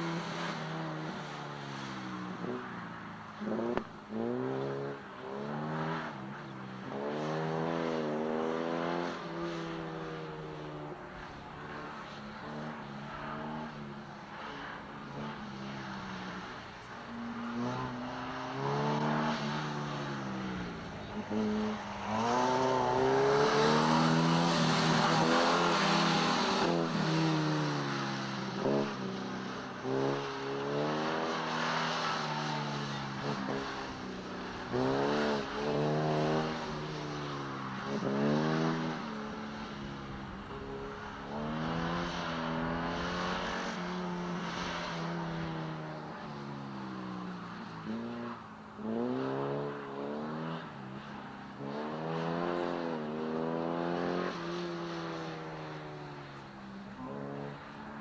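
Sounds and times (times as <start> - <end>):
sports car engines revving: 0.0 - 58.0.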